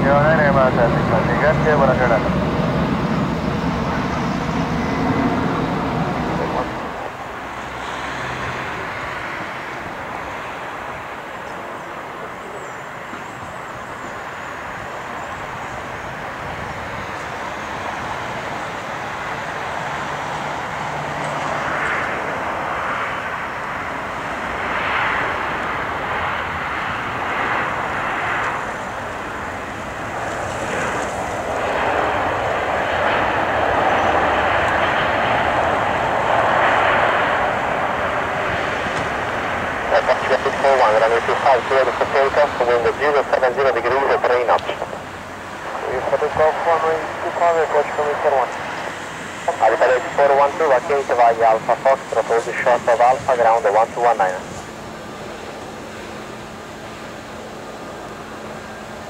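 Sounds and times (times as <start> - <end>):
jet airliner engines rushing: 0.0 - 59.0.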